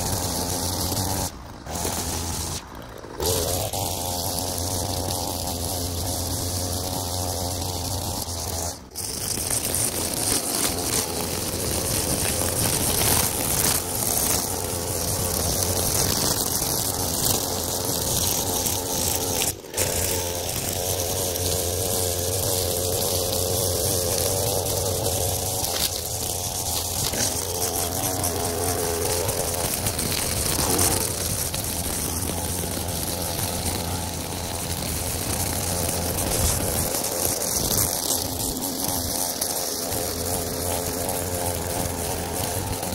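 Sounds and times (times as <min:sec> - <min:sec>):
string trimmer cutting grass: 0:00.0 - 0:42.9.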